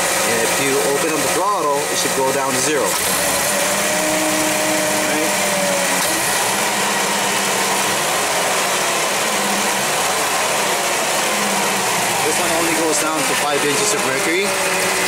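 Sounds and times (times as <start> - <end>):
forklift engine revving: 0.0 - 15.0.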